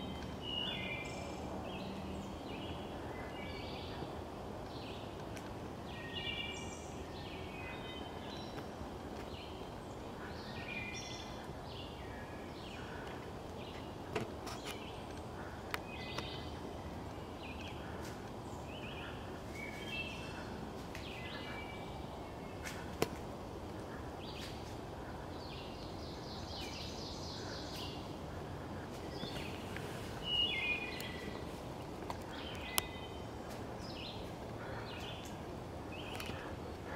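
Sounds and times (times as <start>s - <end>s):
songbirds singing: 0.0s - 36.9s
steady background hiss: 0.0s - 36.9s.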